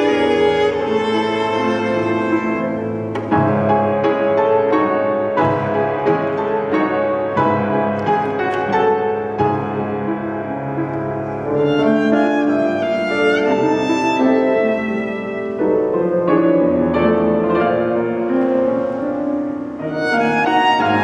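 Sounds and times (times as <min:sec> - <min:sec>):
cello: 0:00.0 - 0:21.0
piano chords: 0:00.0 - 0:21.0
violin: 0:00.0 - 0:21.0.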